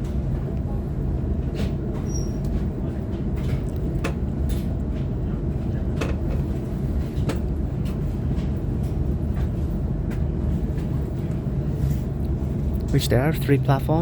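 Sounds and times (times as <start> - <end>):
train running low rumble: 0.0 - 14.0.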